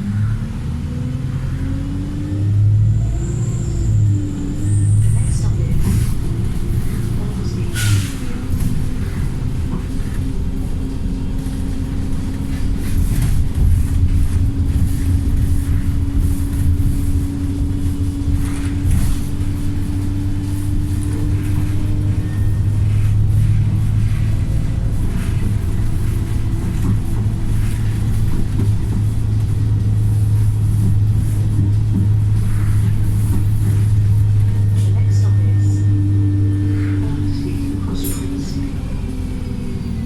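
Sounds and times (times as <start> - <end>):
bus engine accelerating: 0.0 - 40.0.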